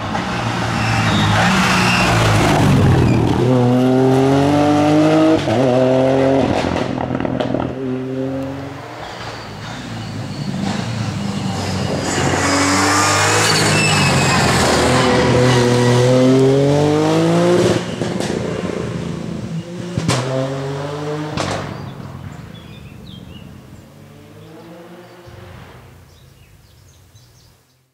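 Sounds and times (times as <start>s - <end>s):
rally car engine at full throttle: 0.0s - 26.5s.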